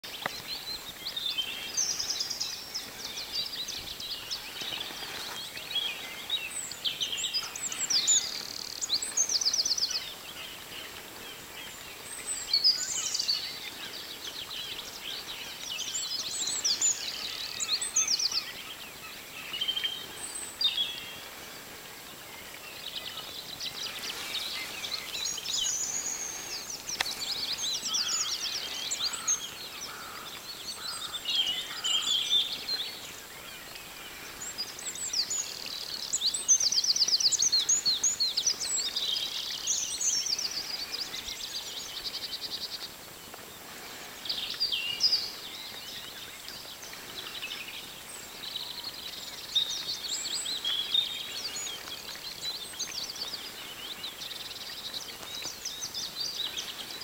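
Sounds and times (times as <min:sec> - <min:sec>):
small birds singing: 0:00.0 - 0:57.0.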